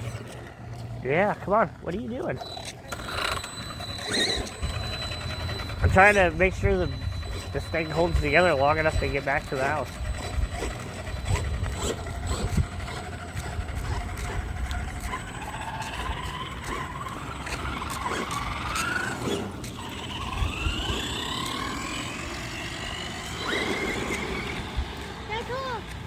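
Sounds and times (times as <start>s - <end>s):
electric motor whining: 0.0s - 26.0s
tyres rolling on pavement: 0.0s - 26.0s.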